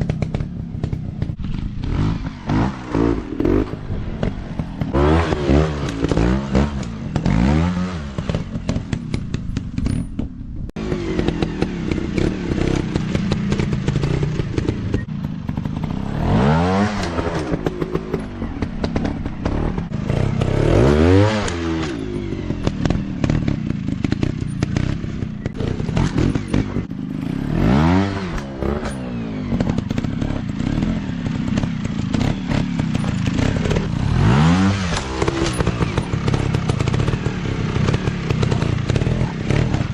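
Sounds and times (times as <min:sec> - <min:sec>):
dirt bike engines revving: 0:00.0 - 0:09.8, 0:10.8 - 0:39.9.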